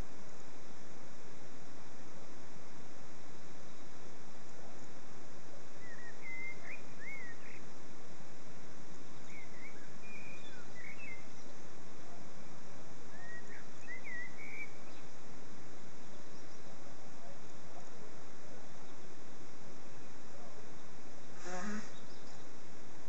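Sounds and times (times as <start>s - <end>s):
songbird singing: 0.0s - 23.0s
steady background hiss: 0.0s - 23.0s.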